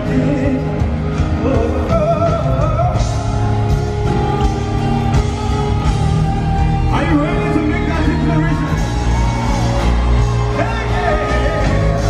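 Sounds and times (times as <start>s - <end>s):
sustained chords and bass: 0.0s - 12.0s.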